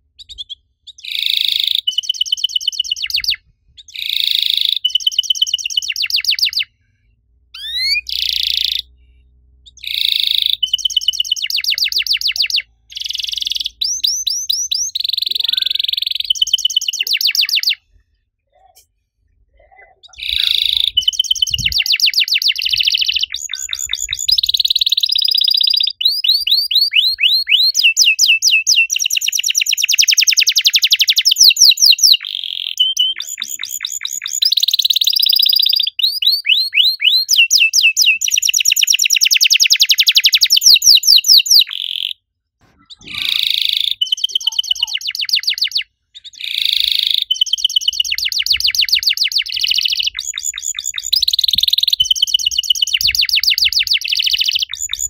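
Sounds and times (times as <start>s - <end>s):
canary singing trills: 0.2s - 6.7s, 7.6s - 9.0s, 9.6s - 17.9s, 19.6s - 42.2s, 42.8s - 55.0s.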